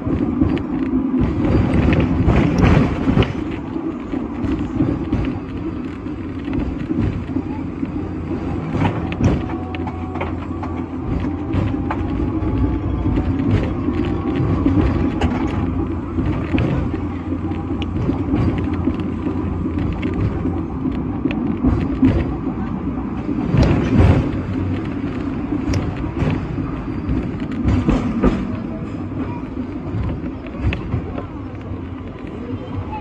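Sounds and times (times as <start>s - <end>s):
tram rumbling on track: 0.0s - 33.0s.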